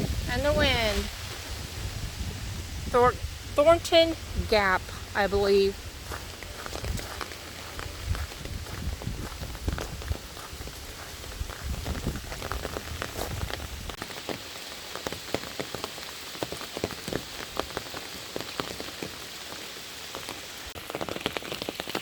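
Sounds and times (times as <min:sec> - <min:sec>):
rain falling: 0:00.0 - 0:22.0
raindrops tapping: 0:02.9 - 0:22.0.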